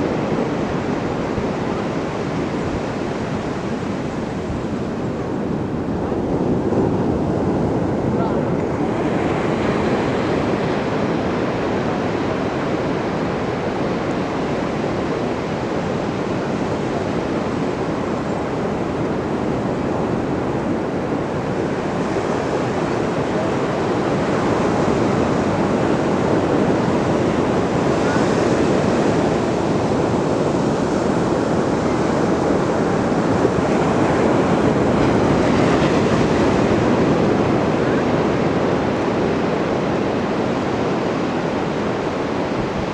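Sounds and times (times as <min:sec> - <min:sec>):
ocean surf washing ashore: 0:00.0 - 0:42.9.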